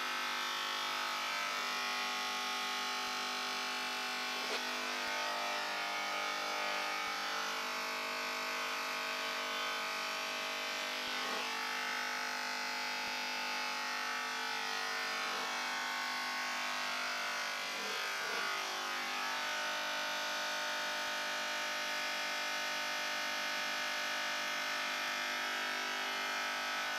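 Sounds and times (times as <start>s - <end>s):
electric hair clippers buzzing: 0.0s - 26.9s.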